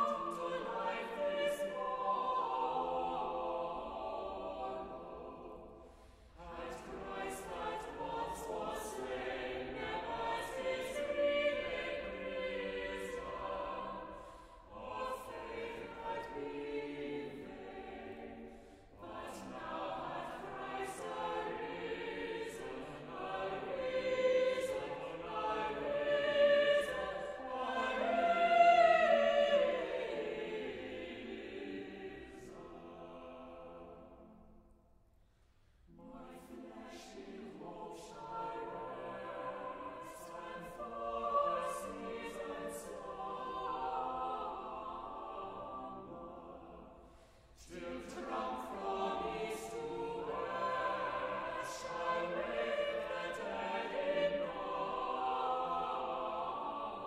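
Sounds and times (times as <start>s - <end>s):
choir singing: 0.0s - 35.0s, 35.8s - 57.0s.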